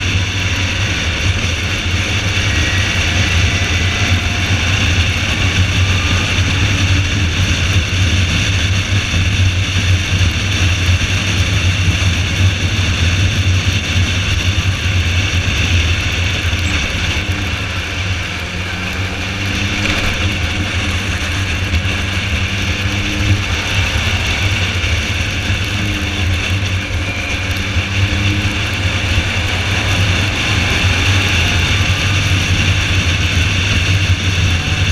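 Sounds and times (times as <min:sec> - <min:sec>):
car engine drone: 0:00.0 - 0:34.9
road and wind noise: 0:00.0 - 0:34.9.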